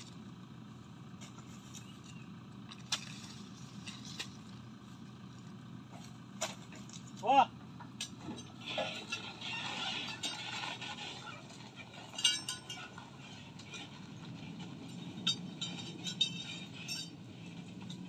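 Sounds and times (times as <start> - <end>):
pickup engine idling: 0.0 - 18.0.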